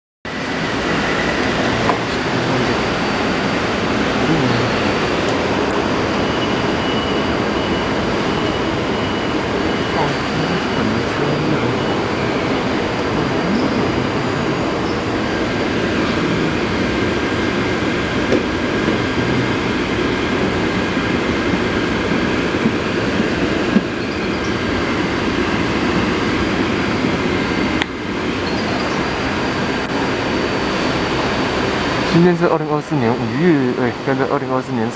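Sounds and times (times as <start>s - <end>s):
train wheels rumbling: 0.3s - 34.5s
high whines: 0.3s - 34.9s.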